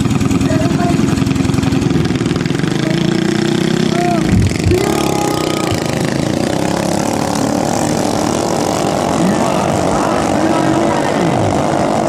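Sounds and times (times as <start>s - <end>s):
boat engines running loudly: 0.0s - 12.0s.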